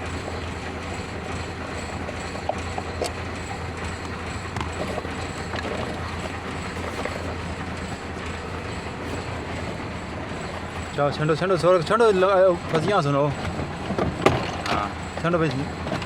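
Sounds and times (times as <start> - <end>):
machine running hum: 0.0 - 16.0.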